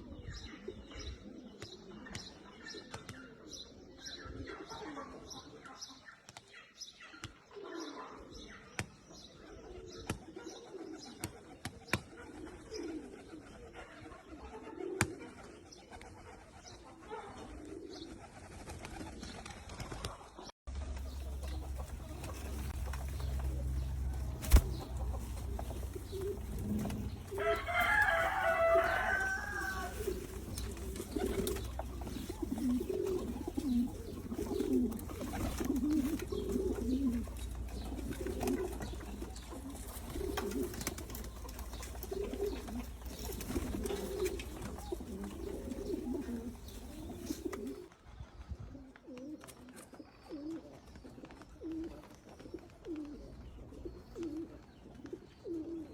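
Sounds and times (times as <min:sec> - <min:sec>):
pigeons cooing: 0:00.0 - 0:05.6, 0:09.4 - 0:19.2, 0:20.8 - 0:48.0, 0:48.7 - 0:55.9.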